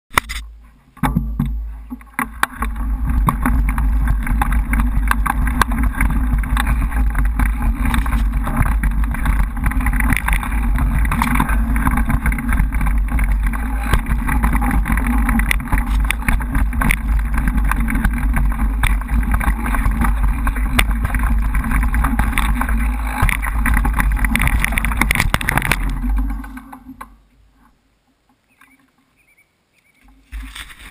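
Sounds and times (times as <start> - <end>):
bike rattling over dirt: 0.1 - 27.7, 30.1 - 30.9
wind buffeting microphone: 1.6 - 26.6.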